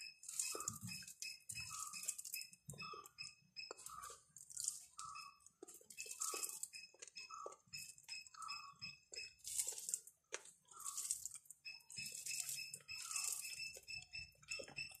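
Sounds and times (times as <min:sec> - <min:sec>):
wet squishy chewing and mixing: 0:00.0 - 0:15.0.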